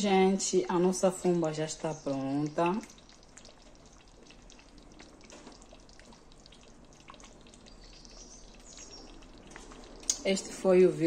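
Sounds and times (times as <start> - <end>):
stew simmering with bubbling pops: 0.0 - 11.0.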